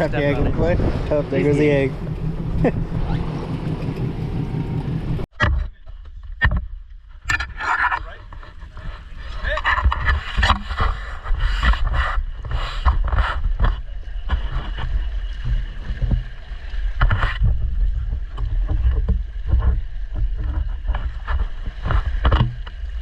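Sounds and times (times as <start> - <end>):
water slapping: 0.0 - 5.3, 8.2 - 23.0
boat engine rumble: 0.0 - 23.0
wind: 0.0 - 23.0.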